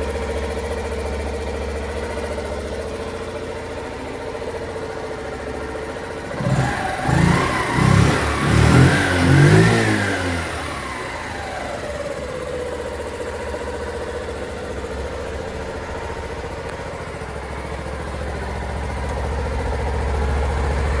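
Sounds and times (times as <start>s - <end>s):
small motorcycle engine revving: 3.0s - 21.0s.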